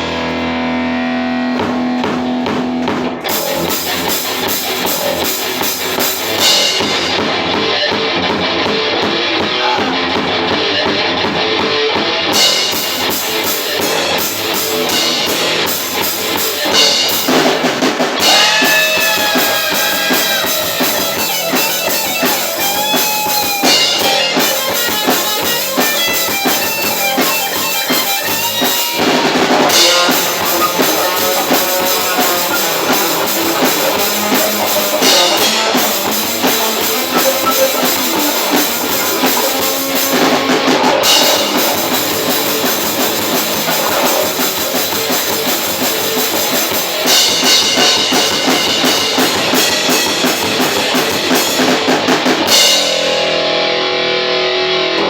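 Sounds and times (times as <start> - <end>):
bending guitar melody: 0.0 - 55.0
metal band playing: 0.0 - 55.0.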